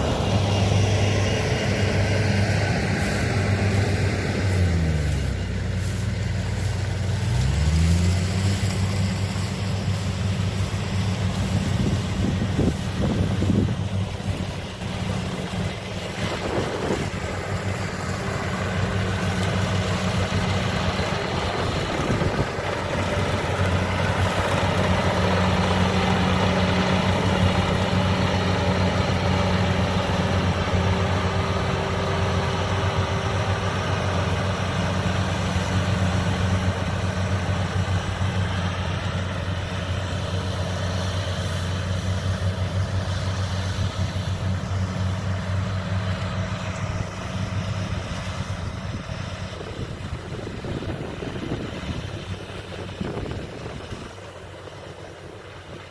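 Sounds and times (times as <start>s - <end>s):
combine harvester engine humming: 0.0s - 55.9s.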